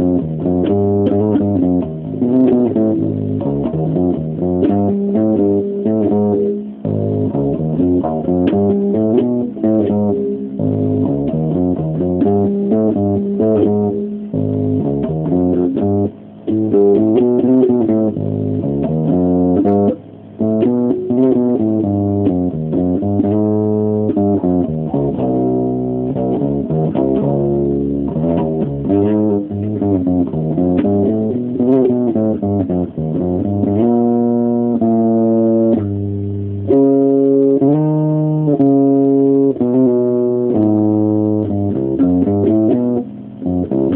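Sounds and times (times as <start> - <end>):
electric bass guitar riffs: 0.0 - 43.9.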